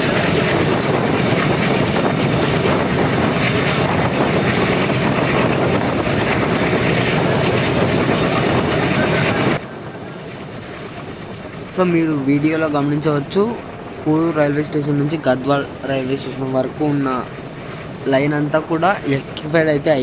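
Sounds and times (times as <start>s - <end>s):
rushing noise of moving train: 0.0s - 20.0s
wind buffeting microphone: 0.0s - 20.0s.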